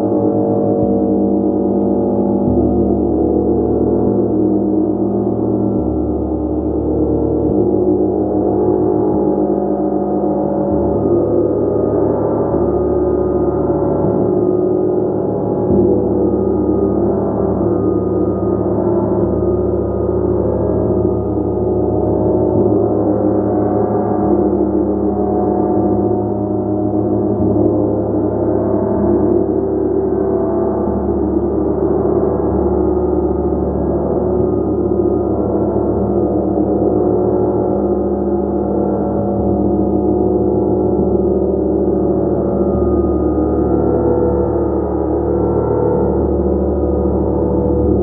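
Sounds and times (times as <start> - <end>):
gong playing sustained tones: 0.0 - 48.0.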